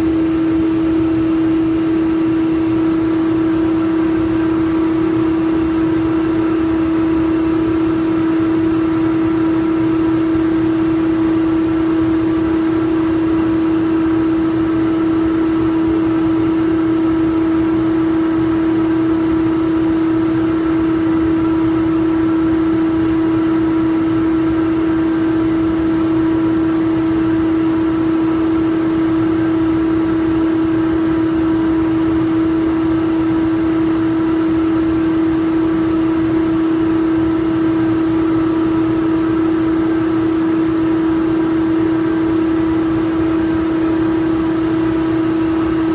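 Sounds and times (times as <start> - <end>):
machine humming: 0.0 - 45.9.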